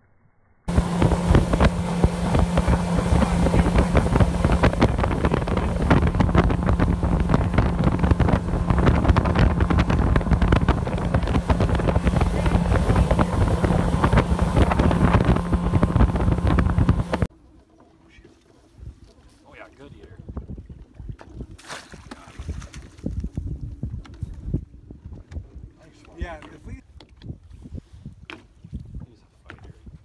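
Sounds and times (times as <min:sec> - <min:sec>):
wind buffeting microphone: 0:00.7 - 0:17.3, 0:19.8 - 0:30.0
outboard engine droning: 0:00.7 - 0:22.4, 0:23.4 - 0:27.6.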